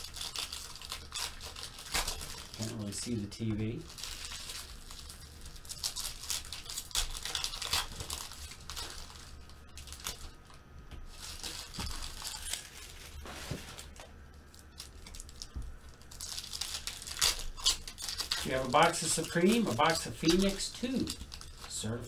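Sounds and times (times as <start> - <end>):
foil wrappers tearing and crinkling: 0.0 - 22.0.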